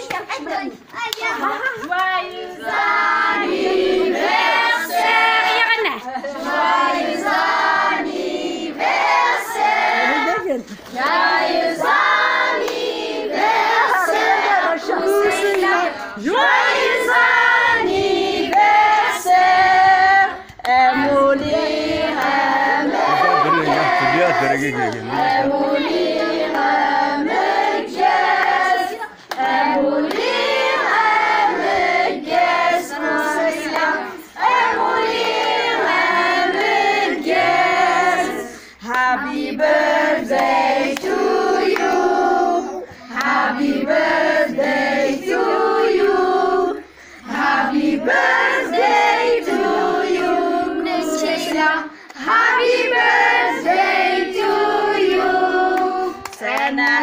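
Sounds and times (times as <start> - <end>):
children and women singing: 1.3 - 57.0.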